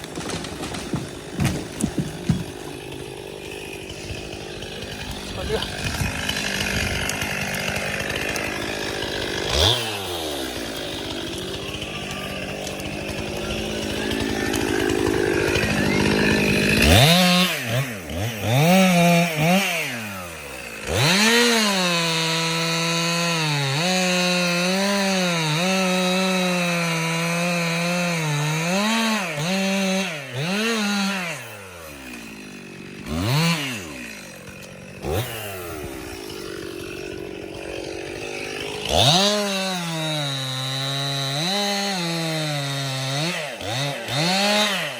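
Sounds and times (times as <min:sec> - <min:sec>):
chainsaw cutting wood: 0:00.0 - 0:44.9
chainsaw throttle blips: 0:00.0 - 0:44.9.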